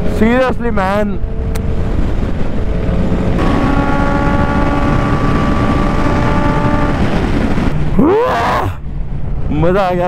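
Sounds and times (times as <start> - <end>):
wind rush: 0.0 - 10.0.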